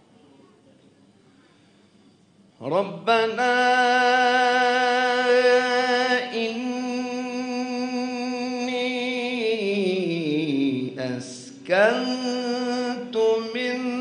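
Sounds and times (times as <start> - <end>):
man chanting melodic recitation: 2.6 - 14.0.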